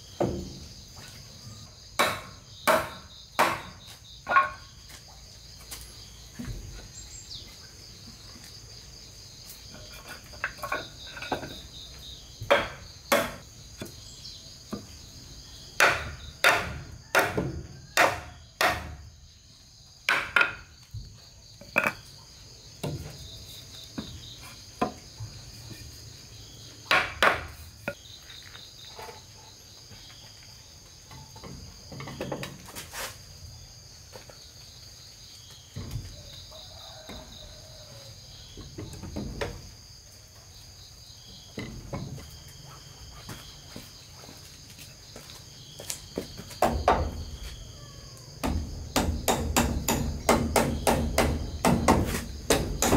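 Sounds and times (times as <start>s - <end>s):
high buzz of insects: 0.0s - 52.9s.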